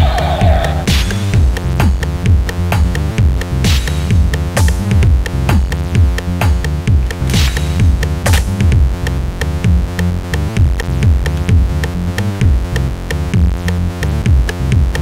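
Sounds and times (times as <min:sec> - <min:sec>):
drum machine kick beat: 0:00.0 - 0:15.0.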